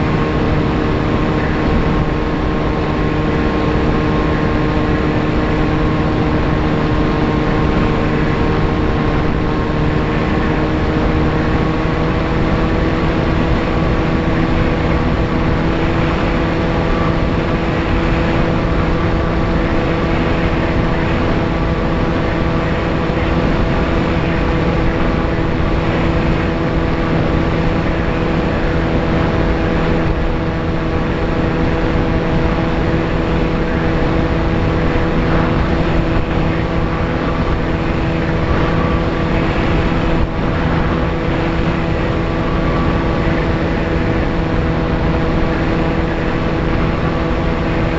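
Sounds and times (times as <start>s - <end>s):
model plane motor whine: 0.0s - 47.9s.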